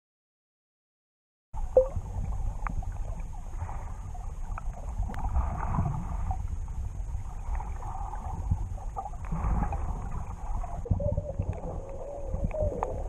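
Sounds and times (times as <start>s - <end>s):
underwater rumble of moving water: 1.6s - 13.0s
underwater clicks and crackles: 1.8s - 13.0s.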